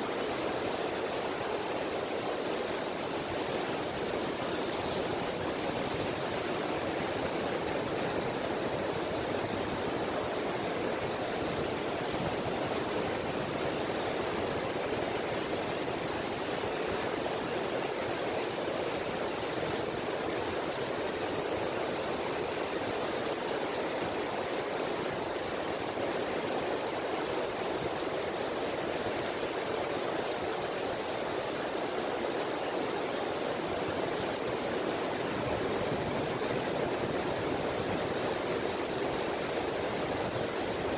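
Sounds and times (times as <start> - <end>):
small waves lapping at shore: 0.0 - 40.9.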